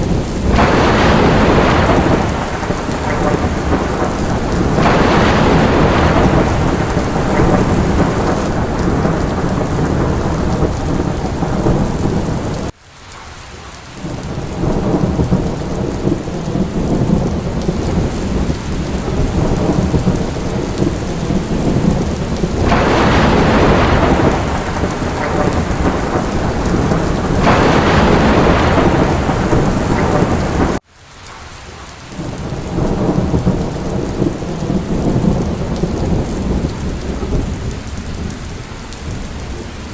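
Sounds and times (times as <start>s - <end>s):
thunder rumbling: 0.0s - 12.7s, 14.0s - 30.8s, 32.2s - 39.9s
heavy rain: 0.0s - 39.9s.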